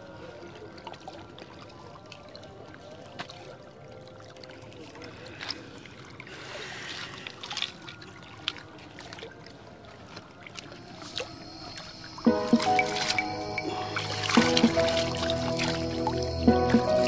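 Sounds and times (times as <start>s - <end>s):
water lapping among rocks: 0.0s - 17.0s.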